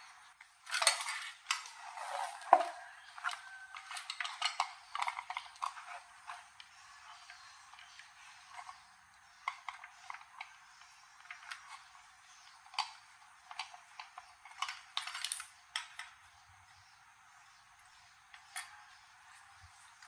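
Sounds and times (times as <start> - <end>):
light metallic clicks of parts: 0.4 - 16.9, 17.8 - 20.0.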